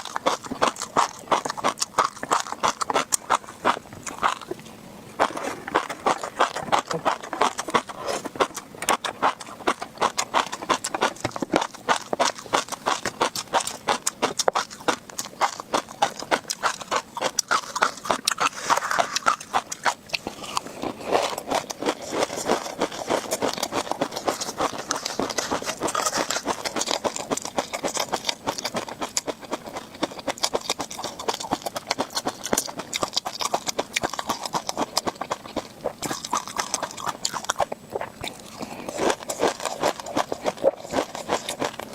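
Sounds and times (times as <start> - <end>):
fish roe popping while chewed: 0.0 - 41.9.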